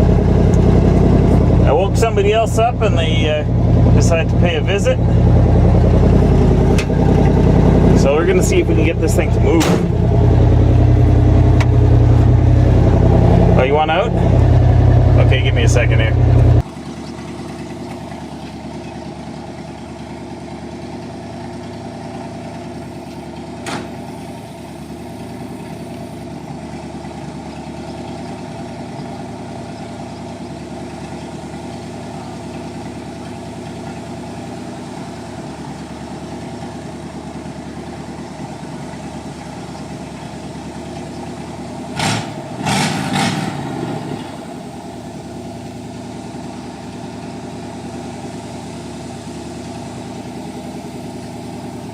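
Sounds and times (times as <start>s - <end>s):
pickup engine idling: 0.0s - 51.9s.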